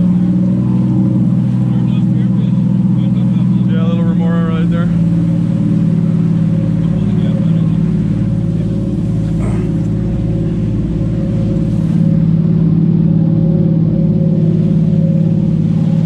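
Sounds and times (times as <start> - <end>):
boat engines droning: 0.0 - 16.0.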